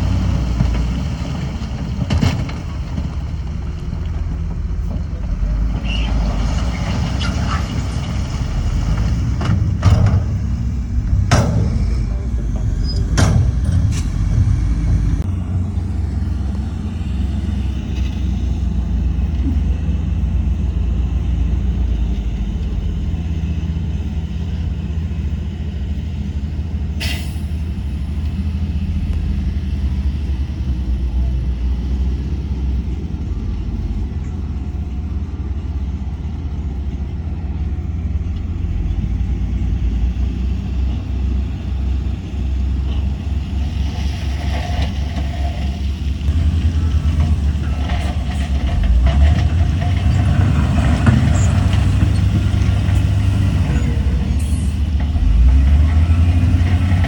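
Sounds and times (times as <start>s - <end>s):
heavy diesel machinery rumbling: 0.0s - 57.0s.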